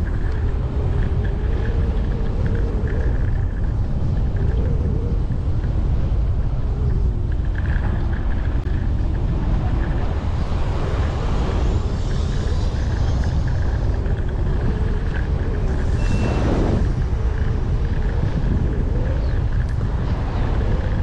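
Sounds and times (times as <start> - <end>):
electric scooter road rumble: 0.0 - 21.0
wind buffeting microphone: 0.0 - 21.0.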